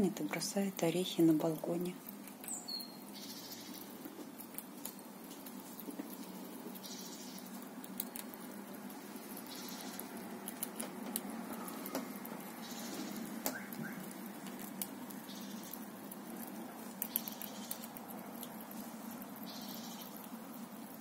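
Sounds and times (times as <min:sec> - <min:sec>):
squirrel gnawing a nut: 0:00.0 - 0:21.0.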